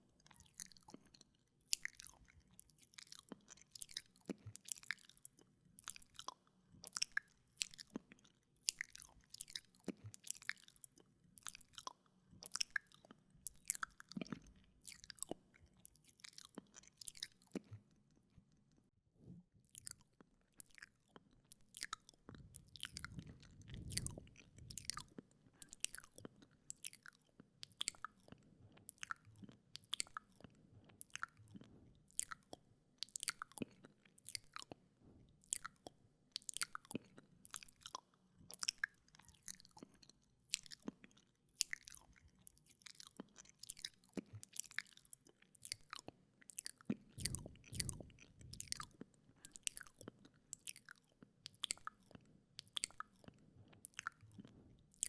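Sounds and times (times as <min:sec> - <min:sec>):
wet mouth clicks and smacks: 0:01.8 - 0:17.8, 0:19.7 - 0:34.8, 0:35.5 - 0:55.0.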